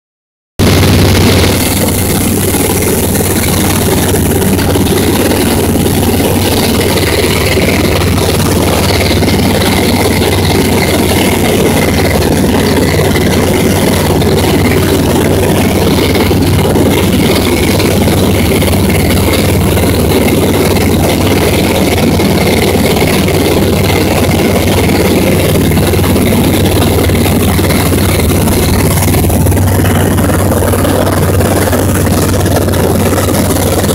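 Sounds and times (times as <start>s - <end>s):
light aircraft engine droning: 0.6s - 33.9s.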